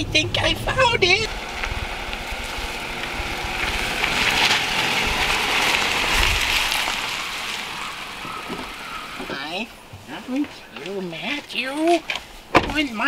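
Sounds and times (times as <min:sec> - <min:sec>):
car tyres rolling on leaves: 0:00.0 - 0:13.0.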